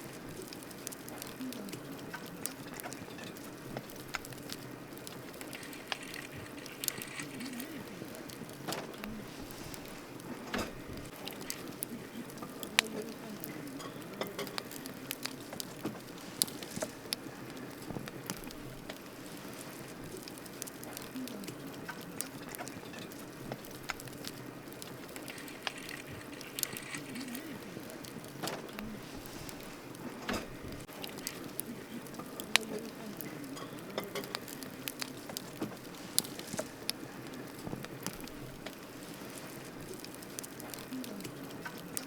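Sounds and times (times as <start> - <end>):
campfire crackling and popping: 0.0 - 42.0
hiss of flame: 0.0 - 42.0.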